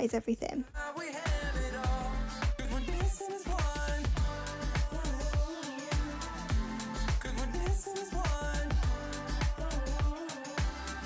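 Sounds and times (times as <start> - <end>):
pop music with drum beat: 0.7 - 11.0.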